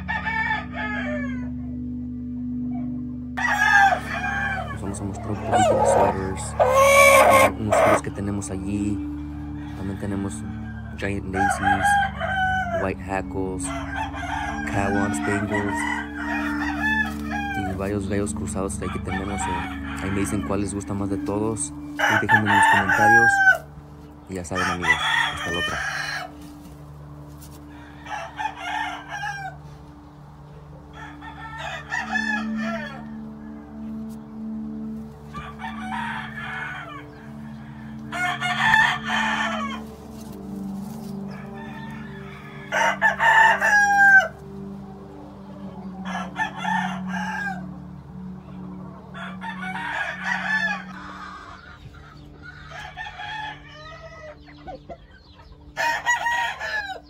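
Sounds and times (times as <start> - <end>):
roosters crowing: 0.0 - 2.6, 3.4 - 57.0.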